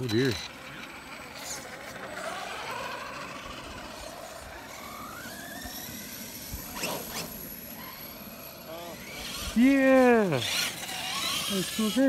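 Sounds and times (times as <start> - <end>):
electric motor and gear whine: 0.0 - 12.0.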